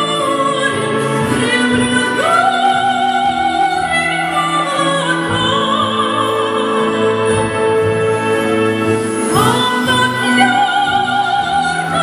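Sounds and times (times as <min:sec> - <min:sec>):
backing music: 0:00.0 - 0:12.0
female opera singer: 0:00.0 - 0:12.0.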